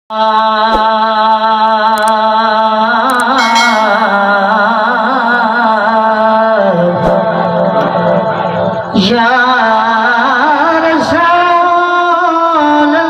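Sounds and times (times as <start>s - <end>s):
man singing into a microphone: 0.1s - 13.0s.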